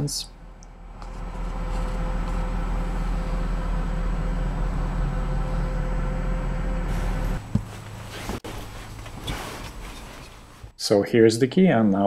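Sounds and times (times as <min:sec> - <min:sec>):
low engine hum: 0:00.3 - 0:10.7.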